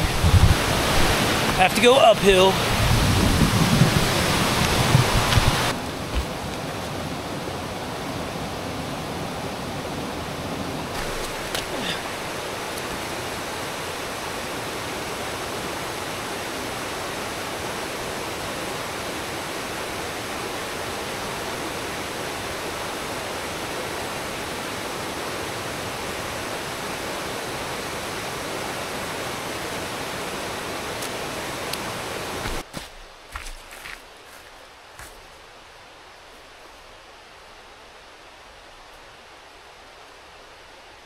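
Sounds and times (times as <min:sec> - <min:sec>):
stream running over rock: 0:00.0 - 0:09.2, 0:10.2 - 0:35.4.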